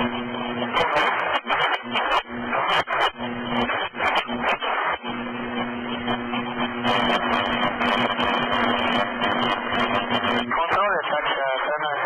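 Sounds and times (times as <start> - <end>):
low hum: 0.0 - 11.2
radio static hiss: 0.0 - 12.0
static crackles: 0.0 - 12.0.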